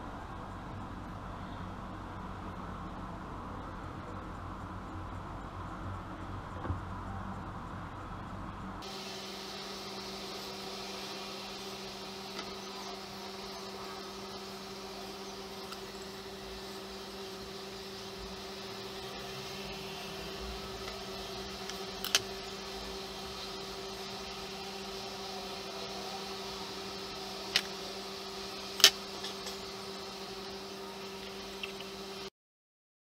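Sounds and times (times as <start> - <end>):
low electrical hum: 0.0 - 32.3.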